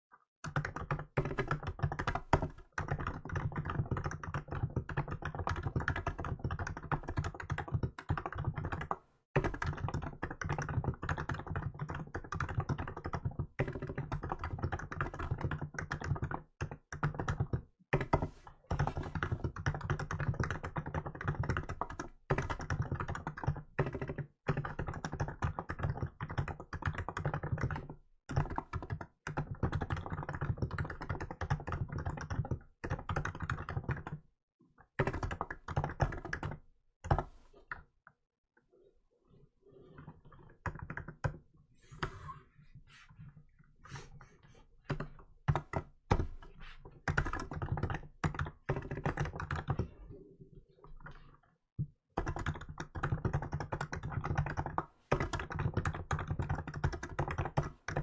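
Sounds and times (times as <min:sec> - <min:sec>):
typing on keyboard: 0:00.4 - 0:34.2, 0:34.9 - 0:37.8, 0:39.9 - 0:41.4, 0:44.9 - 0:50.2, 0:50.9 - 0:58.0.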